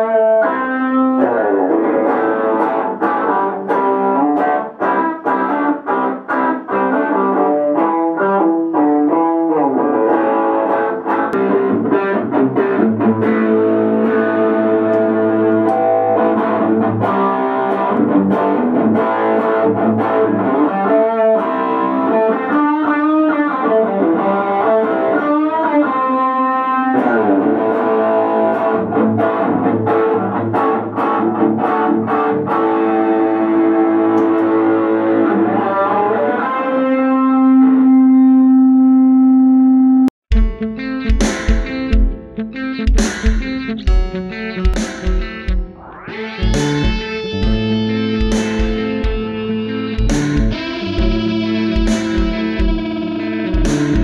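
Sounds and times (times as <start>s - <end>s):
electric guitar notes with effects: 0.0s - 54.0s.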